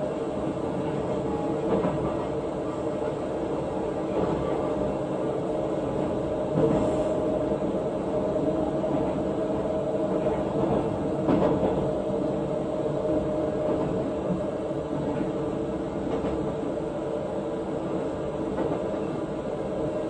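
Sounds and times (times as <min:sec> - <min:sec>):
train wheels rumbling on rail: 0:00.0 - 0:20.0
train rattle: 0:00.1 - 0:05.0, 0:05.7 - 0:16.6, 0:17.9 - 0:20.0.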